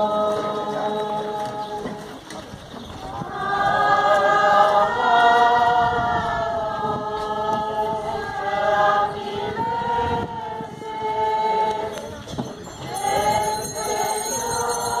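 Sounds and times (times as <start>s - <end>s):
many voices singing a hymn: 0.0s - 15.0s.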